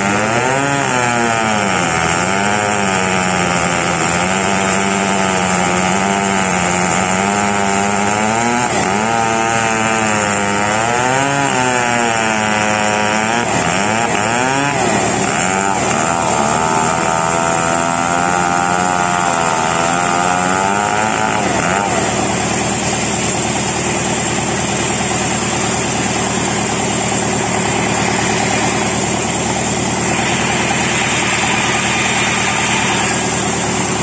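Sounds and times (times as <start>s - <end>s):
chainsaw cutting log: 0.0s - 34.0s.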